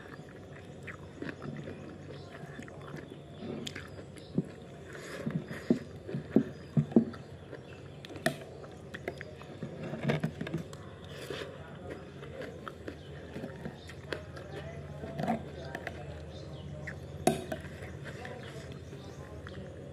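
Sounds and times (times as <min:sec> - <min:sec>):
chewing and mouth smacks: 0:00.0 - 0:19.7.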